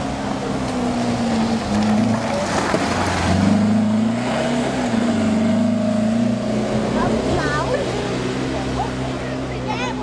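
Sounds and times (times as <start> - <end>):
car engine pulling hard: 0.0 - 10.0.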